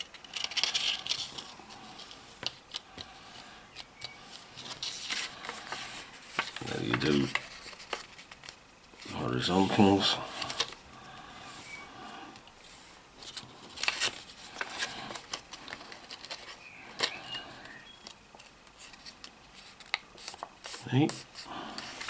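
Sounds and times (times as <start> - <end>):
card rustling and crinkling: 0.0 - 11.8, 12.6 - 22.0.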